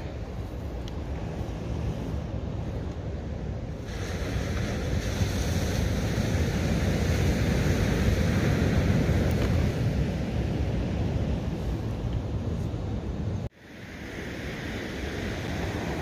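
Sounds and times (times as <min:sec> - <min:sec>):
surf washing up beach: 0:00.0 - 0:16.0
wind rumbling on microphone: 0:00.0 - 0:16.0.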